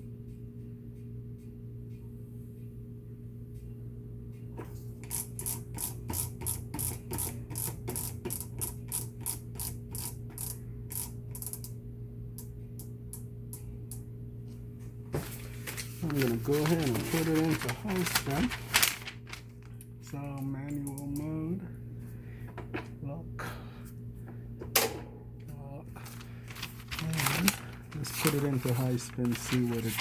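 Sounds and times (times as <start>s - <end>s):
washing machine electrical hum: 0.0s - 30.0s.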